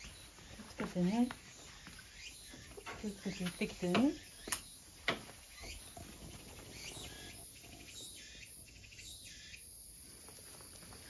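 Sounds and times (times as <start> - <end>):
faint bird chirps: 0.0 - 9.9.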